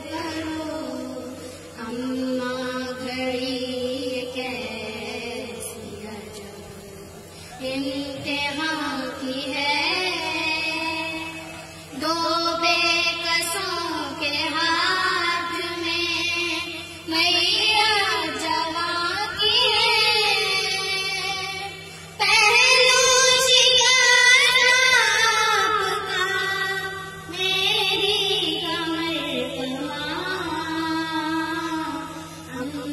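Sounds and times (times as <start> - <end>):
girls singing a lament: 0.0 - 32.9
steady low hum: 0.0 - 32.9.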